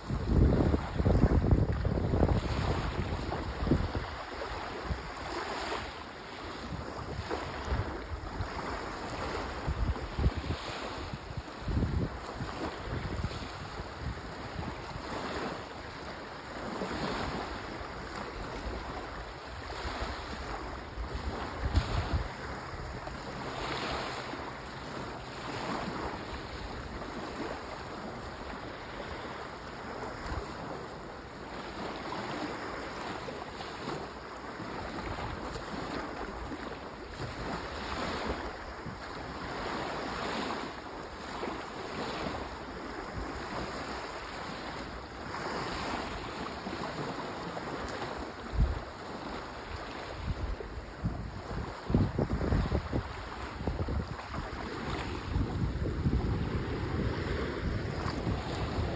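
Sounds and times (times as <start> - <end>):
waves lapping on sandy shore: 0.0 - 58.9
wind rumbling on microphone: 0.0 - 58.9.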